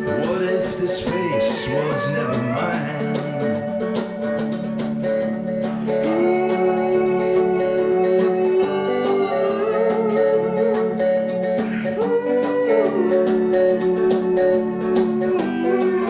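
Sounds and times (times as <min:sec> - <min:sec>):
person singing long note: 0:00.0 - 0:03.8, 0:06.0 - 0:11.1, 0:12.0 - 0:16.0
strummed acoustic guitar: 0:00.0 - 0:16.0.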